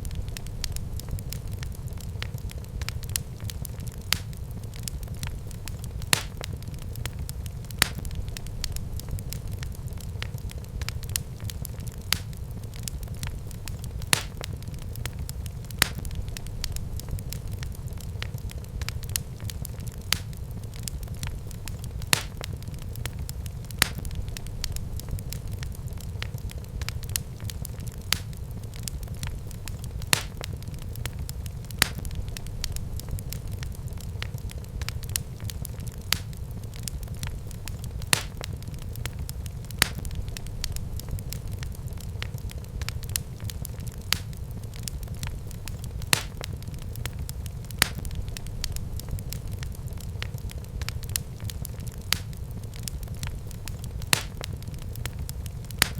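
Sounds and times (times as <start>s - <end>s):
fire crackling and popping: 0.0s - 55.9s
fire flames rumbling: 0.0s - 55.9s.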